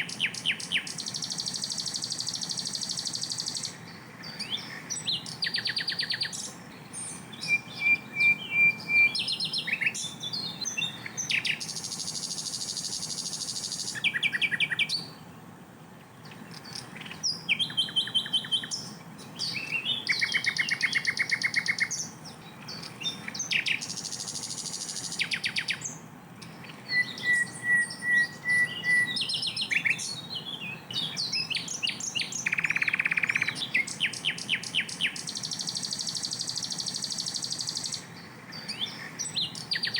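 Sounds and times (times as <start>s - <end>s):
bird singing rapid song: 0.0s - 39.9s.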